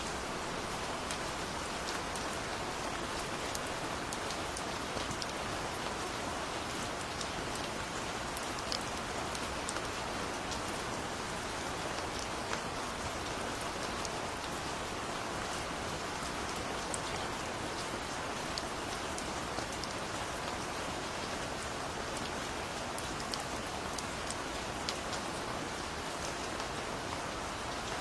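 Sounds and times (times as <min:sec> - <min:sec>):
gentle rain on a surface: 0:00.0 - 0:28.0.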